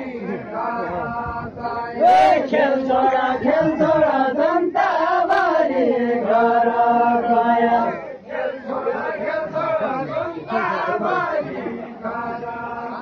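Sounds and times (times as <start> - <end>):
crowd chanting a song: 0.0 - 13.0.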